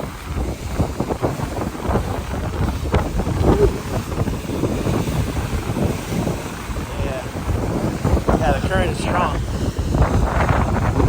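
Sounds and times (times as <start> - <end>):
choppy water splashing: 0.0 - 11.0
wind buffeting microphone: 0.0 - 11.0.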